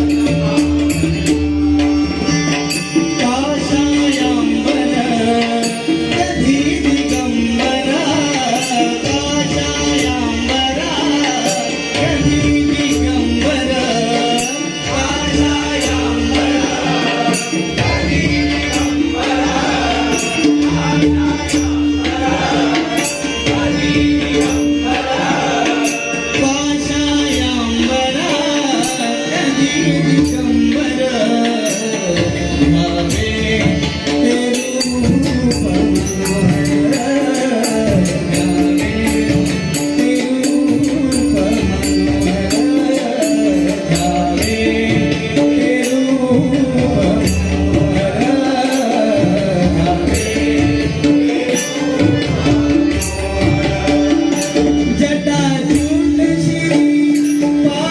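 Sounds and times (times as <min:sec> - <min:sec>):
jingling percussion: 0:00.0 - 0:57.9
man singing devotional song: 0:00.0 - 0:57.9.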